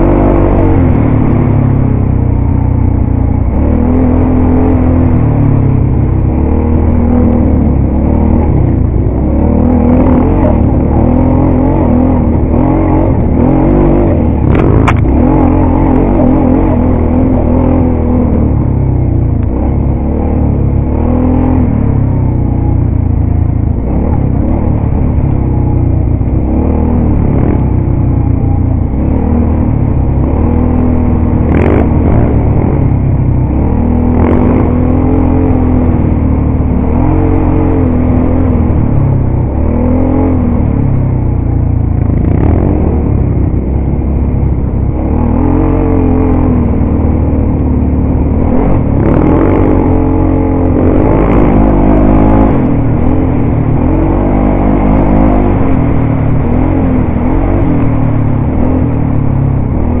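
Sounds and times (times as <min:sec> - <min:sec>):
quad bike engine revving: 0:00.0 - 1:00.0.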